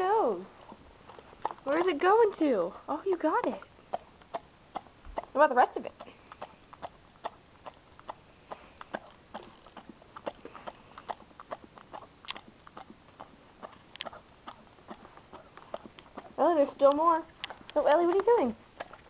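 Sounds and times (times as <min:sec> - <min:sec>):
dog licking and smacking: 0:00.6 - 0:19.0.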